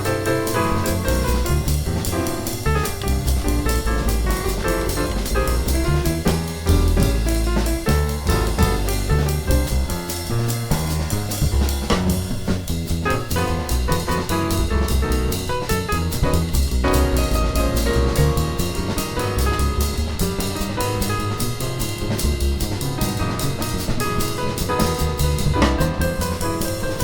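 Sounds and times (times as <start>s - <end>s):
drums and cymbals: 0.0s - 27.0s
piano: 0.0s - 27.0s
walking upright bass: 0.0s - 27.0s.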